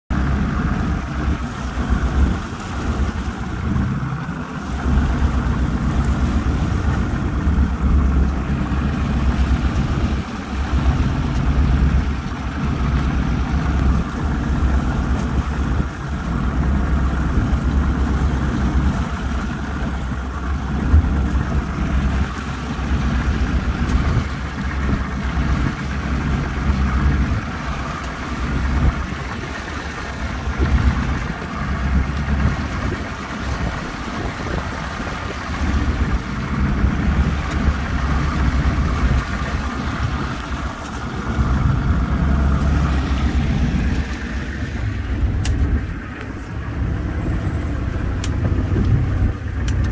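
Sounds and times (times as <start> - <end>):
outboard motor droning: 0.0 - 49.9
water and wind hiss: 0.1 - 49.9.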